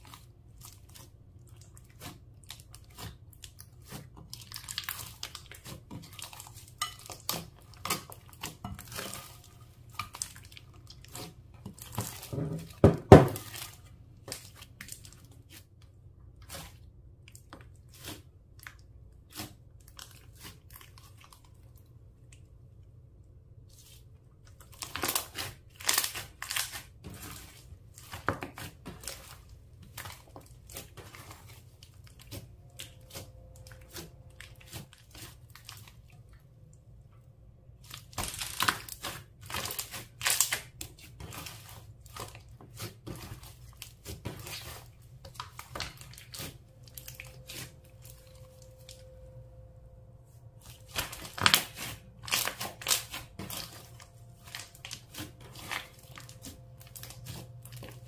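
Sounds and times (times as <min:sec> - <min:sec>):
slime squish: 0:00.0 - 0:23.0, 0:23.6 - 0:49.2, 0:50.3 - 0:58.0.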